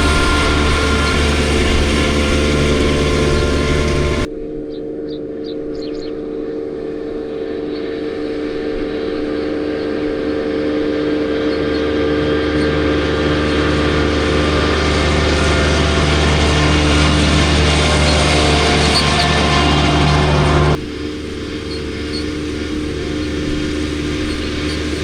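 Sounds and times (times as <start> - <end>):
tractor engine drone: 0.0 - 4.3, 9.0 - 25.0.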